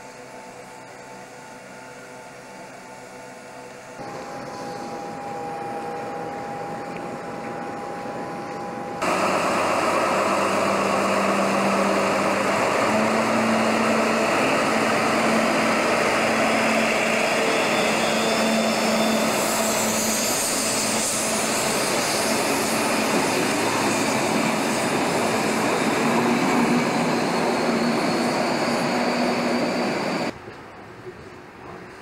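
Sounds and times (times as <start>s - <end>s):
diesel locomotive engine pulling away: 0.0s - 30.4s.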